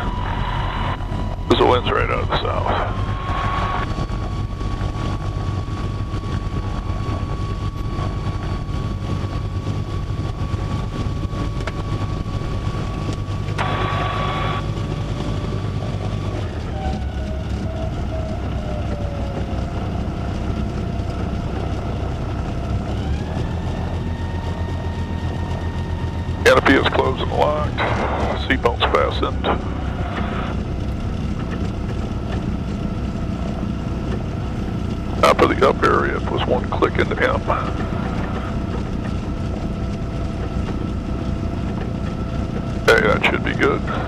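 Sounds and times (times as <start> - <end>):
aircraft piston engine running: 0.0 - 44.0.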